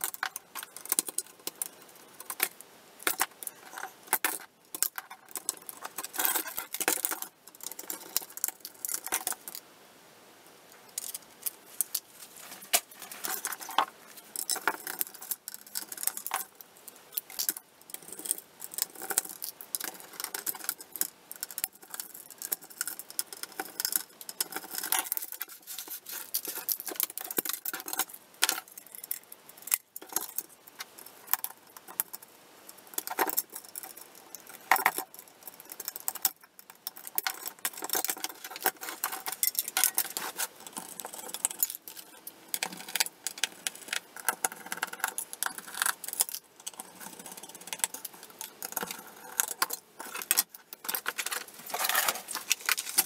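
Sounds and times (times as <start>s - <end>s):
small metal parts clinking: 0.0s - 9.6s, 10.9s - 12.1s, 13.2s - 53.0s.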